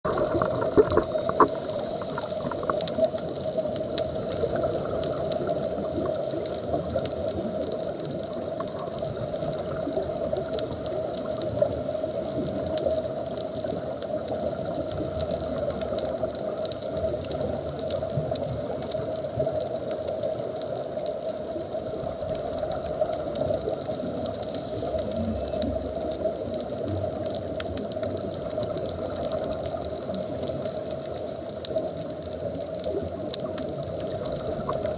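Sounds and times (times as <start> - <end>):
faint clicks and crackles: 0.0 - 34.9
muffled underwater hiss and hum: 0.1 - 34.9.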